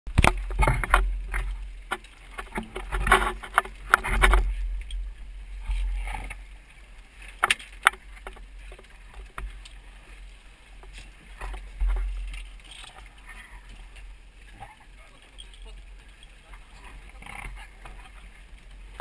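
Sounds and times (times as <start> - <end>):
wind and sea rumble: 0.1 - 19.0.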